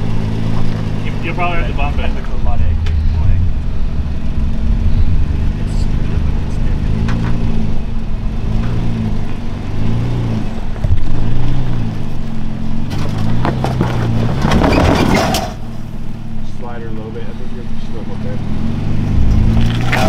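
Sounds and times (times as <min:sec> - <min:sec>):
tires scraping on rock: 0:00.0 - 0:20.0
truck engine revving: 0:00.0 - 0:20.0.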